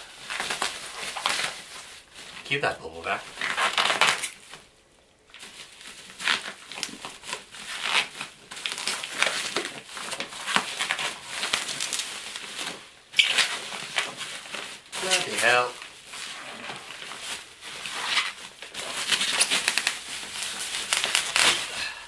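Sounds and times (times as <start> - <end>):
bubble wrap and paper crinkling: 0.0 - 22.0.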